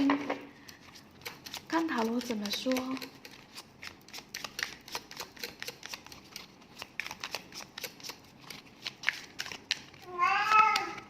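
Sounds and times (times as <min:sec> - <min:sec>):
cards clicking and tapping: 0:00.0 - 0:11.0.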